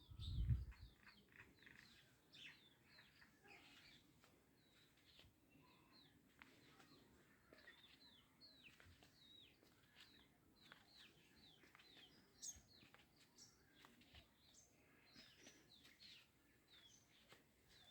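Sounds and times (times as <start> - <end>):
birds chirping faintly: 0.0 - 17.9.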